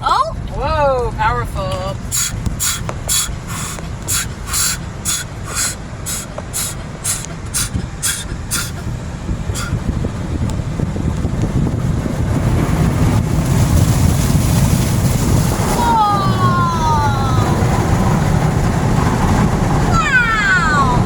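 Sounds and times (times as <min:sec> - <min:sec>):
steady low rumble: 0:00.0 - 0:20.1
water jets spraying on car: 0:00.1 - 0:11.3, 0:12.0 - 0:21.0.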